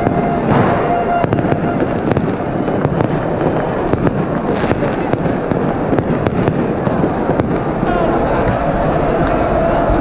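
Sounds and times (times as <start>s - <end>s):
firecrackers cracking and banging: 0.0s - 10.0s.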